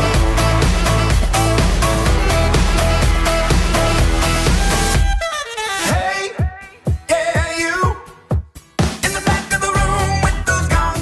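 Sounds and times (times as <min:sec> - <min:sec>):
pop music with singing: 0:00.0 - 0:11.0.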